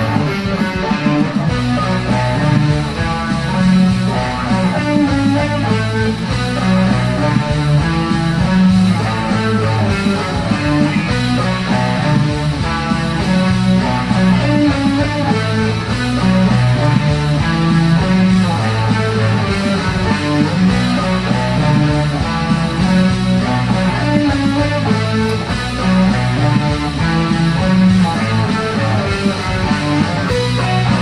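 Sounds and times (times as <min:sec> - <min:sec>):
electric guitar rock riff: 0:00.0 - 0:31.0.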